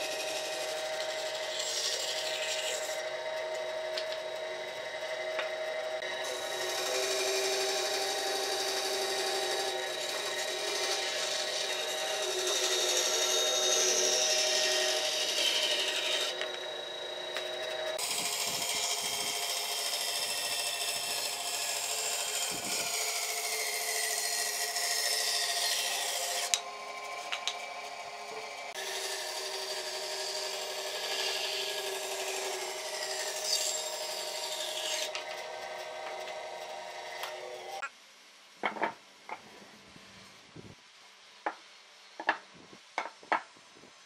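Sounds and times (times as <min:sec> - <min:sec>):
electric sander on wood: 0:00.0 - 0:37.8.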